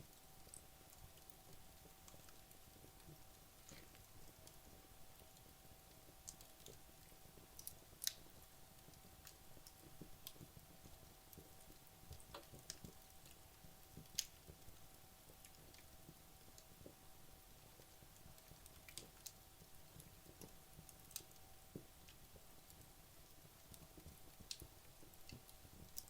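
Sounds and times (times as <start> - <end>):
soft fire hiss: 0.0 - 26.0
wood fire crackling and popping: 0.0 - 26.0.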